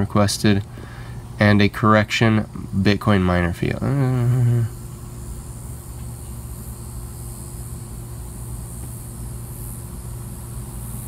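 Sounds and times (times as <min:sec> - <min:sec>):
faint high hiss: 0:00.0 - 0:11.0
low mechanical hum: 0:00.0 - 0:11.0.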